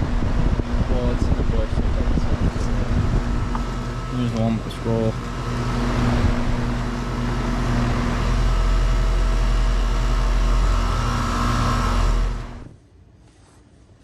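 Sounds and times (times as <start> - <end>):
fan rushing: 0.0 - 12.8
compressor low hum: 0.0 - 14.0.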